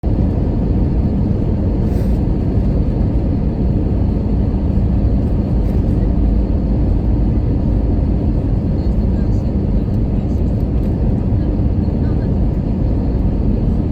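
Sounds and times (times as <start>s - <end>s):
jet engines rumbling: 0.0s - 13.9s.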